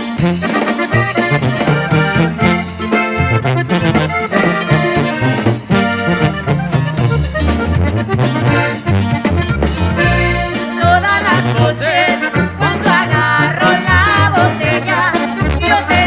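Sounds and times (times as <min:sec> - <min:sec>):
instrumental music with steady beat: 0:00.0 - 0:16.0.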